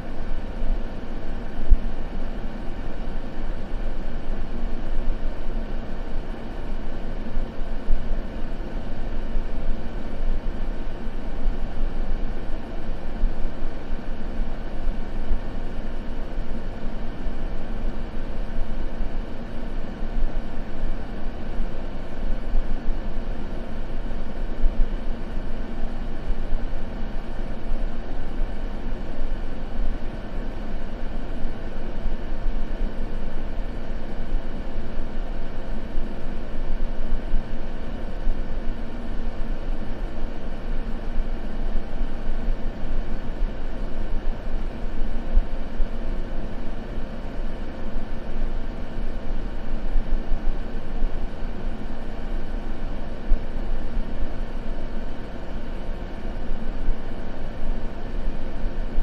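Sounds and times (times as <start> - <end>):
deep white noise: 0.0 - 59.0.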